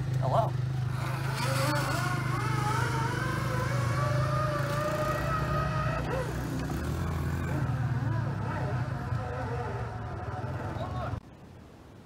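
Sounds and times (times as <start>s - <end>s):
zipline trolley whine: 0.6s - 11.2s.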